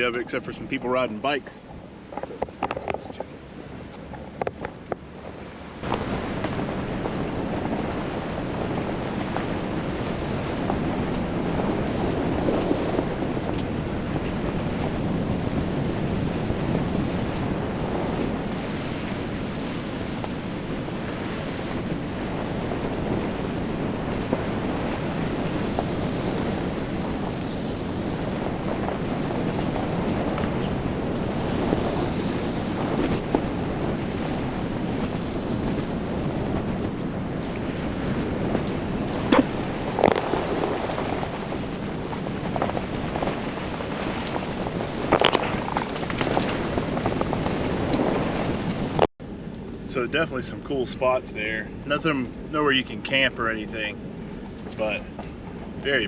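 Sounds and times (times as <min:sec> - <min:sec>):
tyres rumbling on gravel road: 0:00.0 - 0:56.0
wind: 0:00.0 - 0:56.0.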